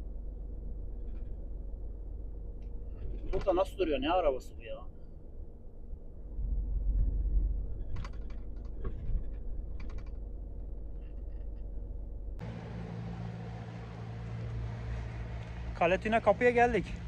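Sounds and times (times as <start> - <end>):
low hum: 0.0 - 17.0
truck rumbling: 0.0 - 17.0.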